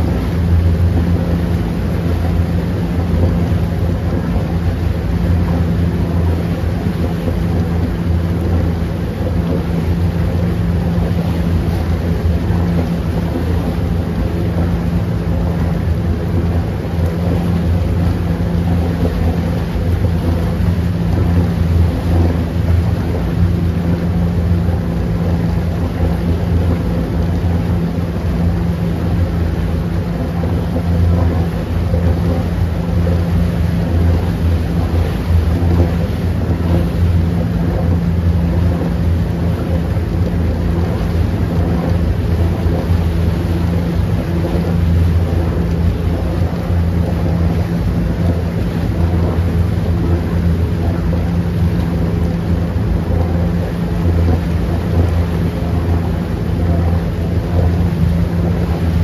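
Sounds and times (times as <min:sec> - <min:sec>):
motorboat engine drone: 0:00.0 - 0:59.0
propeller wash churning: 0:00.0 - 0:59.0.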